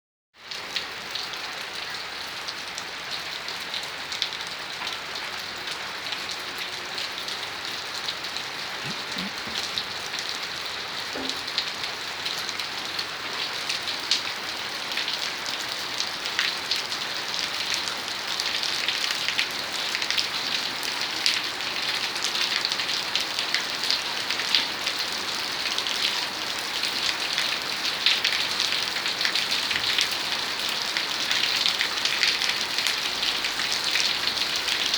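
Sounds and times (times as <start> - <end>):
rain falling: 0.4 - 34.9.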